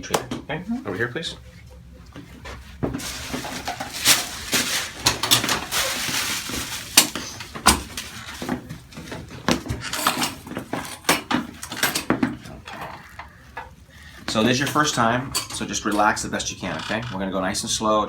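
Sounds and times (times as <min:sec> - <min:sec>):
rustling on treatment table: 0:01.0 - 0:16.4.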